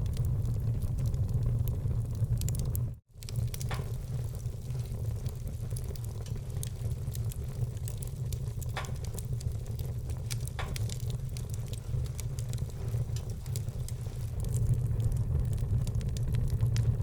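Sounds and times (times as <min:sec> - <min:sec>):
fire pops: 0:00.0 - 0:17.0
wood fire crackling: 0:00.0 - 0:17.0.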